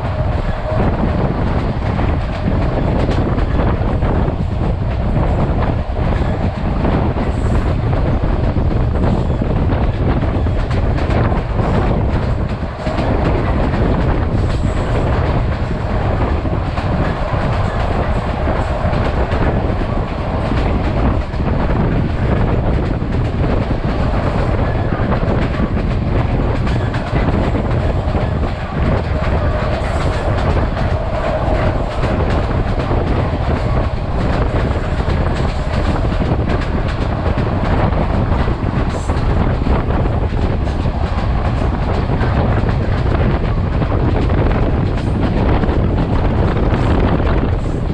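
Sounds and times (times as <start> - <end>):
train rumbling along track: 0.0 - 47.9
train wheels clacking over rail joints: 0.0 - 47.9.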